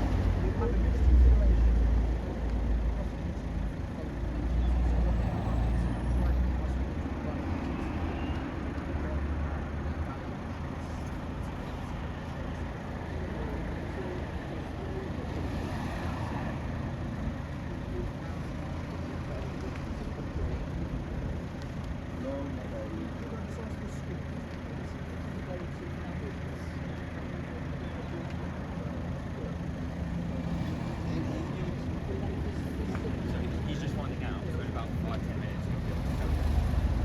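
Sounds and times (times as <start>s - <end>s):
background traffic hum: 0.0s - 37.0s
heavy vehicle engine rumble: 0.0s - 37.0s.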